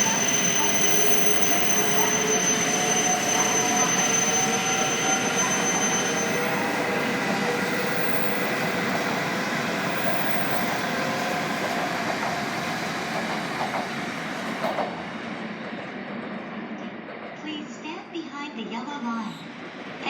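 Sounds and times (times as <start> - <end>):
train rushing on rails: 0.0 - 20.0.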